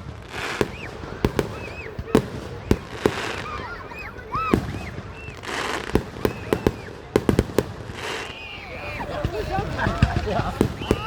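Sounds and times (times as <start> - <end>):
fireworks bangs: 0.0 - 11.0
fireworks whistles: 0.0 - 11.0.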